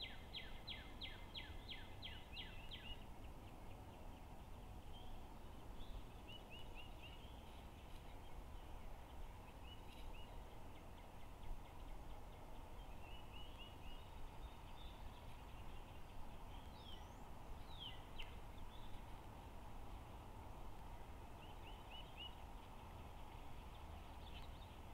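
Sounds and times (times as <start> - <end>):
songbird chirping: 0.0 - 24.9.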